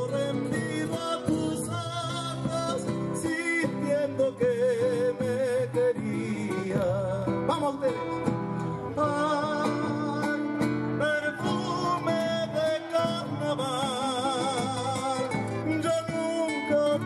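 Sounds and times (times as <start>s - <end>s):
person singing: 0.0s - 17.0s
strummed acoustic guitars: 0.0s - 17.0s.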